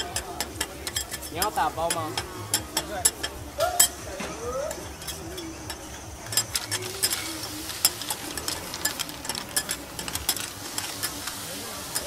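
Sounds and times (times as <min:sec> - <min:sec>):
faint sizzle: 0:00.0 - 0:12.0
metal spatulas scraping griddle: 0:00.0 - 0:12.0.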